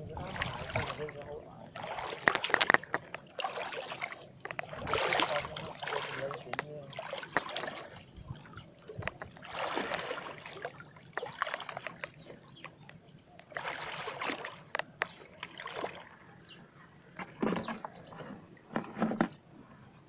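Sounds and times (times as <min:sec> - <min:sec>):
water splashing from wading: 0:00.0 - 0:18.8.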